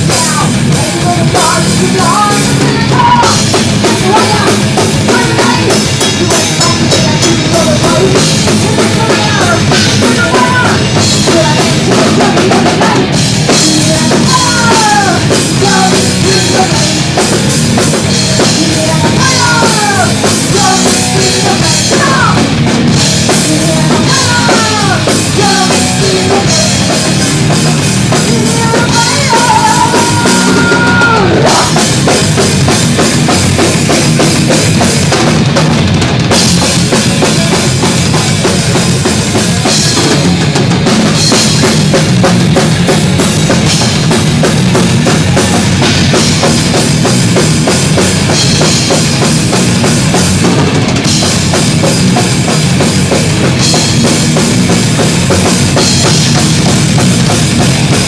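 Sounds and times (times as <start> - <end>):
bass guitar: 0.0 - 58.0
distorted electric guitars: 0.0 - 58.0
fast drumming: 0.0 - 58.0
thrash metal band playing: 0.0 - 58.0.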